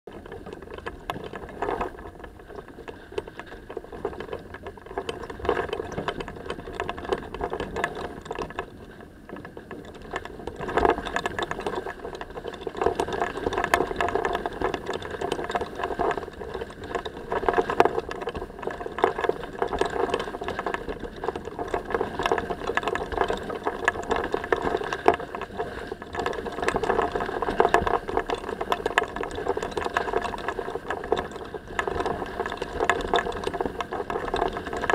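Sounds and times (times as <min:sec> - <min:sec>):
water rushing along a hull: 0:00.1 - 0:34.9.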